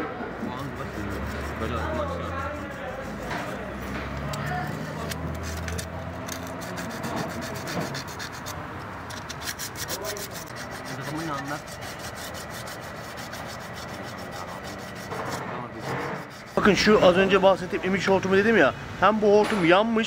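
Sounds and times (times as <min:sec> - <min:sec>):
sandpaper scrubbing metal: 0:00.4 - 0:17.7.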